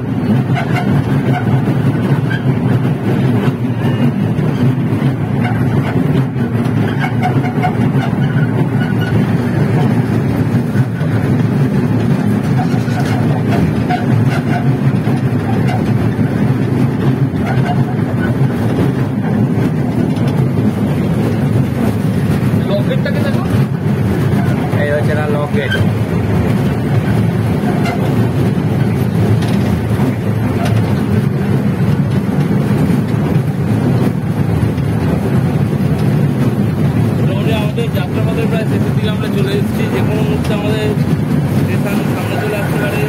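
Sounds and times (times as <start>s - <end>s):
toy train rumbling: 0.0s - 43.0s.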